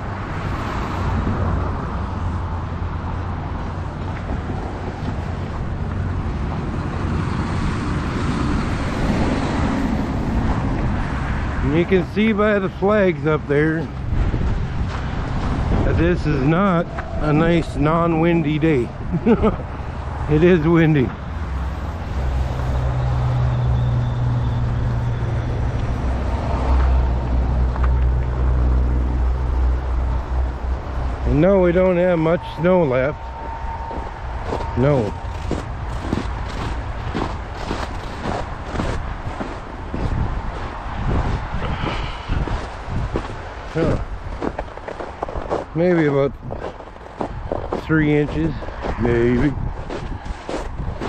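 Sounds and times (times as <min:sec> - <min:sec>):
wind buffeting microphone: 0:00.0 - 0:20.4, 0:29.6 - 0:51.0
motor vehicle engine hum: 0:00.0 - 0:51.0
road traffic: 0:00.0 - 0:51.0
street noise: 0:00.0 - 0:51.0.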